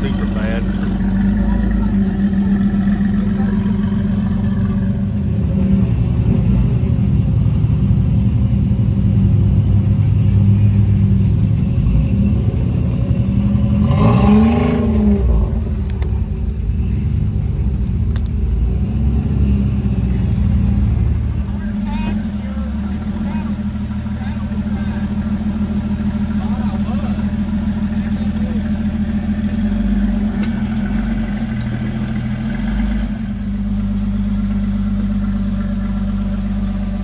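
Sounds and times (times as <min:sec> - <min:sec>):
engine running at low revs: 0:00.0 - 0:37.0.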